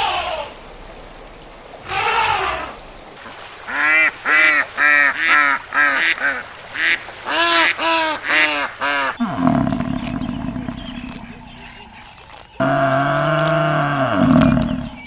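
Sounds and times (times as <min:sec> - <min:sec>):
waterfowl calling: 0:01.4 - 0:15.0.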